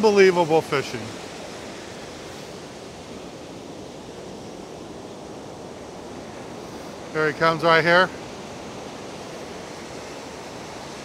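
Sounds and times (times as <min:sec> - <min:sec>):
ocean surf washing up beach: 0:00.0 - 0:11.0.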